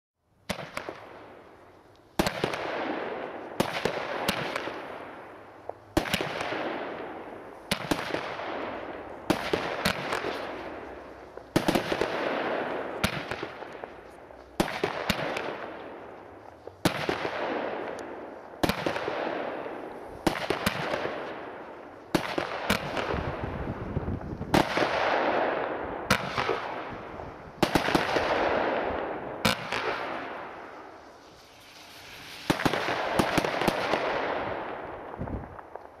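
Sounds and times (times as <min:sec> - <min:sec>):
crackle of firework stars: 0:00.3 - 0:36.0
firework bangs: 0:00.4 - 0:36.0.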